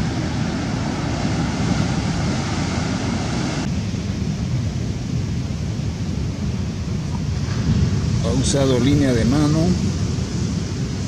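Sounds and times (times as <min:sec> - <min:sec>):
rough surf rushing: 0:00.0 - 0:11.0
wind buffeting microphone: 0:00.0 - 0:11.0.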